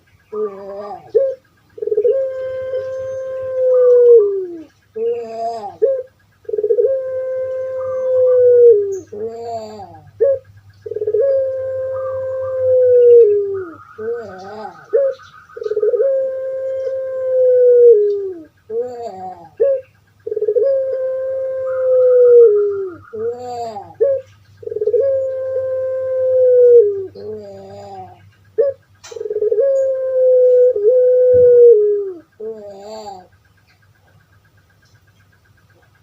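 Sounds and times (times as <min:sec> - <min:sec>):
dove cooing: 0:00.0 - 0:34.6
faint low hum: 0:00.0 - 0:36.0.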